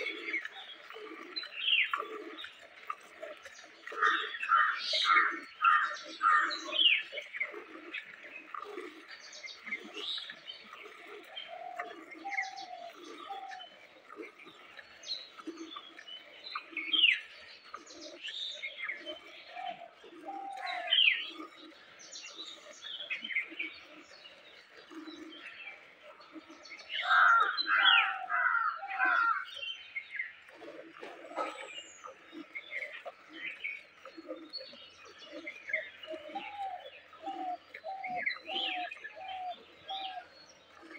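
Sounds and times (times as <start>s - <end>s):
birds chirping: 0.0s - 40.9s
rapid repeated bird calls: 0.0s - 40.9s.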